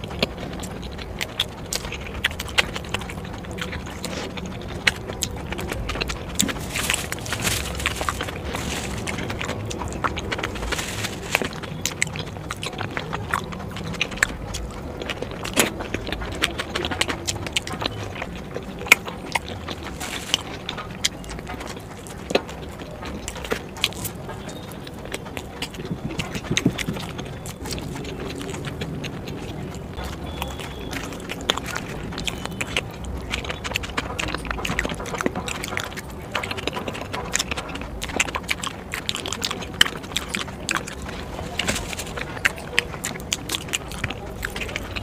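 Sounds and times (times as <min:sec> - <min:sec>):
chewing dumplings and cabbage: 0:00.0 - 0:45.0
sharp mouth clicks: 0:00.0 - 0:45.0.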